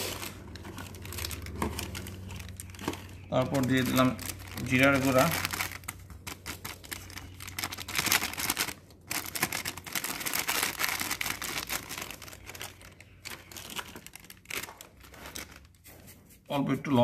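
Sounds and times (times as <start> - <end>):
plastic packet crinkling: 0.0 - 15.8.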